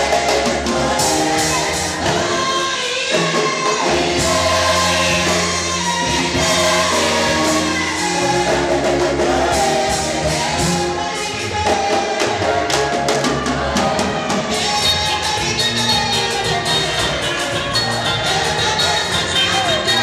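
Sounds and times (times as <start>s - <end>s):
band with drum beat and bass: 0.0s - 20.0s
gospel choir singing: 0.0s - 20.0s.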